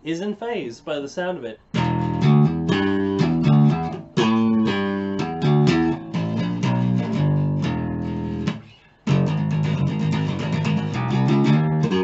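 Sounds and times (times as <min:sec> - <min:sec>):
bass guitar riff: 0:01.7 - 0:12.0.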